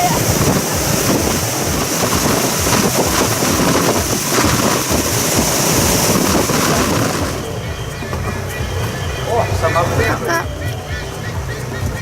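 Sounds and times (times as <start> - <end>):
motorboat running: 0.0 - 12.0
wind buffeting microphone: 0.0 - 12.0.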